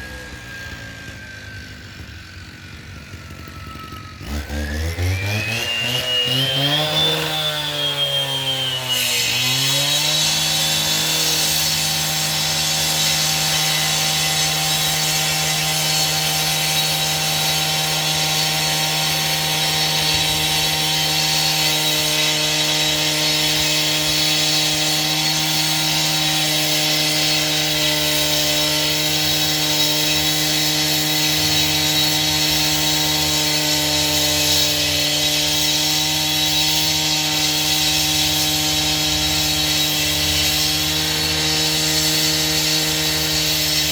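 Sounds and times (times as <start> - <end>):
power saw engine: 0.0 - 43.9
saw rasping through cut: 0.0 - 43.9.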